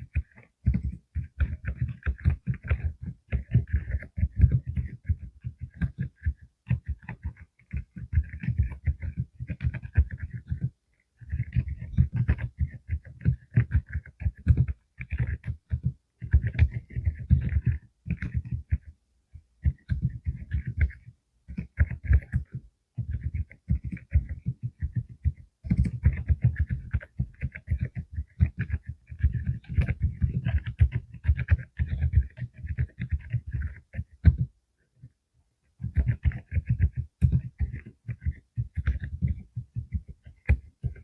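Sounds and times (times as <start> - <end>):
mechanical keyboard typing: 0.0 - 18.9, 19.6 - 34.5, 35.8 - 41.0.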